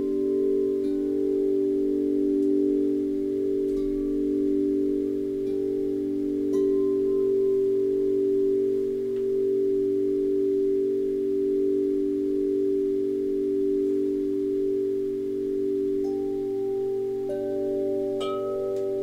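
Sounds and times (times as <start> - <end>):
low wind chime notes ringing: 0.0 - 19.0.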